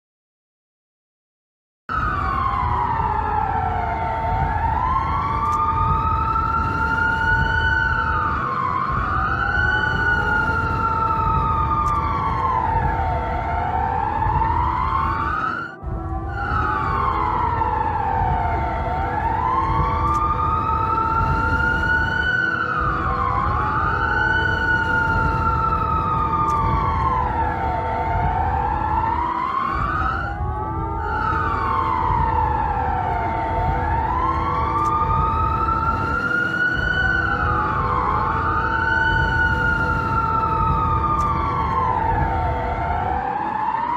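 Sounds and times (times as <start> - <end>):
emergency siren wailing: 1.9 - 43.9
steady tone: 2.1 - 43.9.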